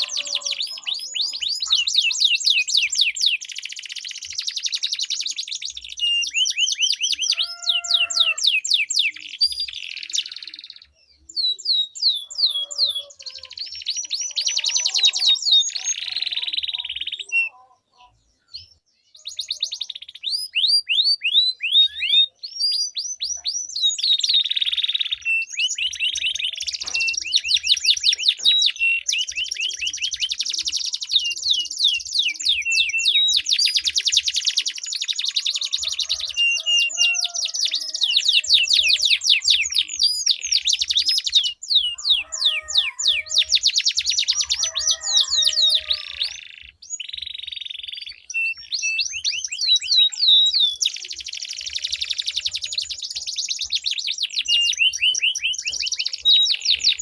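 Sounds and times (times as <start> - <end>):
canaries singing trills: 0.0 - 57.0.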